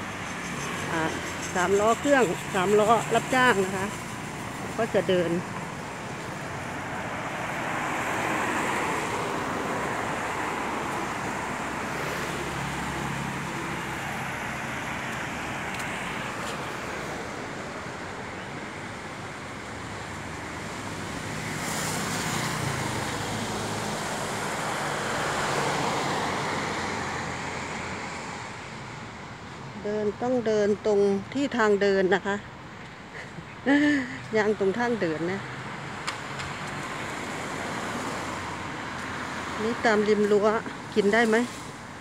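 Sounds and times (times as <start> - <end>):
cars passing on wet street: 0.0 - 42.0.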